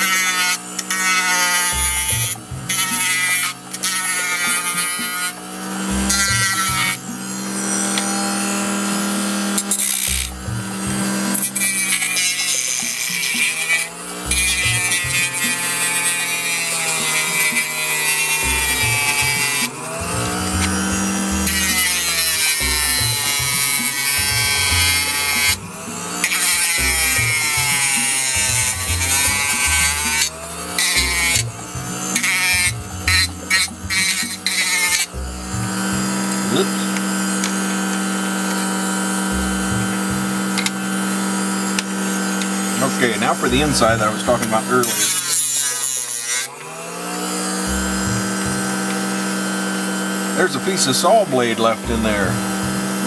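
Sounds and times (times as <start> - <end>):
background music: 0.0 - 53.0
rotary tool grinding plastic: 0.0 - 53.0.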